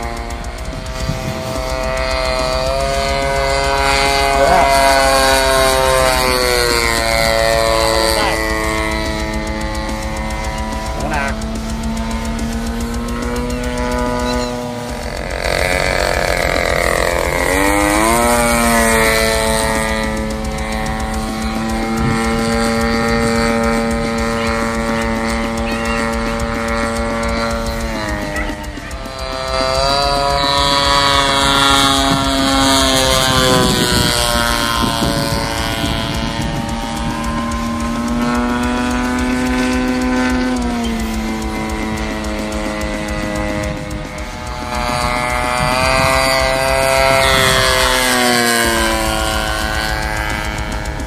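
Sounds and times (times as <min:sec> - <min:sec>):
model plane engine buzzing: 0:00.0 - 0:51.0.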